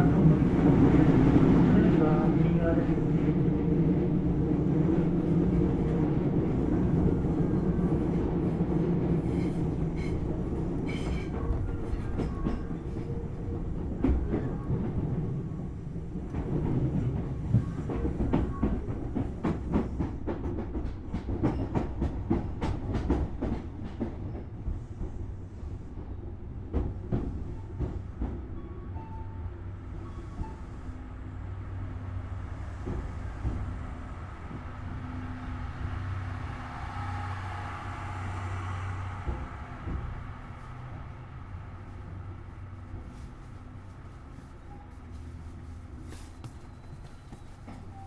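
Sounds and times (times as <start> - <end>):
low hum of railcar equipment: 0.0 - 48.0.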